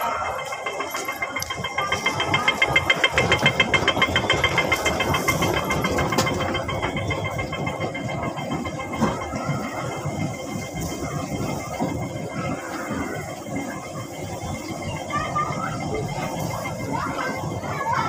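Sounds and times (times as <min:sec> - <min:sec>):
fast pulsing rattle: 0:00.0 - 0:18.0
train rumble: 0:00.0 - 0:18.0.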